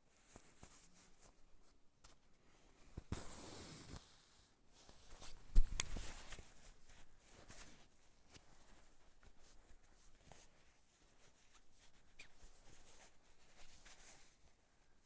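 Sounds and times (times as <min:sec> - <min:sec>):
fabric rustling: 0:00.0 - 0:04.0, 0:04.6 - 0:15.0.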